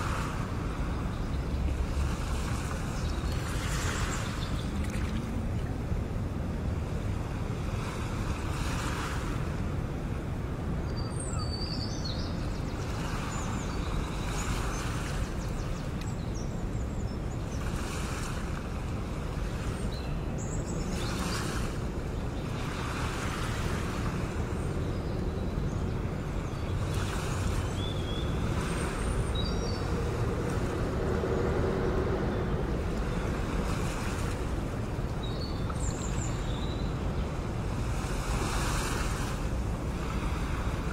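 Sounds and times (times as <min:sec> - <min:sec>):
sea waves breaking: 0:00.0 - 0:10.9, 0:17.5 - 0:19.9, 0:20.8 - 0:40.9.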